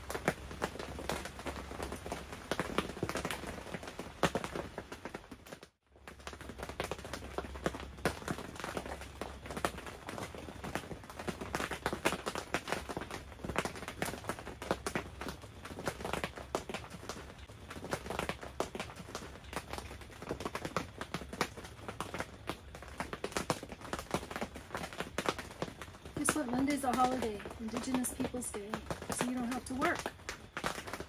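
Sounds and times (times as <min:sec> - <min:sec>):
rain pattering on a tent: 0:00.0 - 0:31.0.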